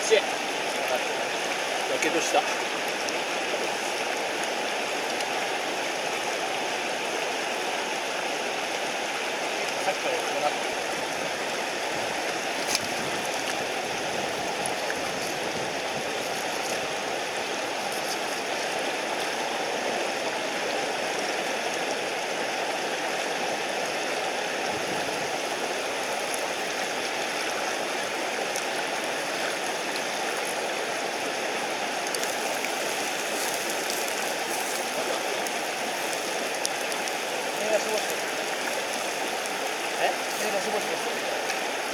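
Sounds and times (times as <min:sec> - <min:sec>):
mountain stream rushing over rocks: 0:00.0 - 0:41.9.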